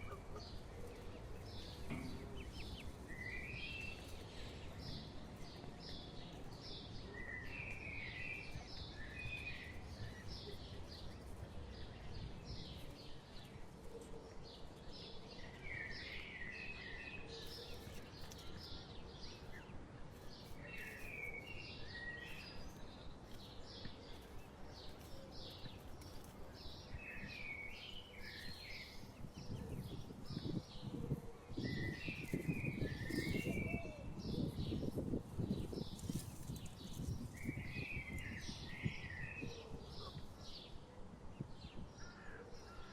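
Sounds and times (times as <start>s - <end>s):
songbird chirping and warbling: 0.0s - 42.9s.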